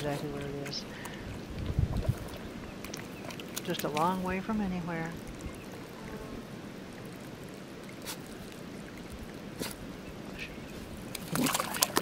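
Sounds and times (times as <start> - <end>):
water trickling through grass: 0.0 - 12.0.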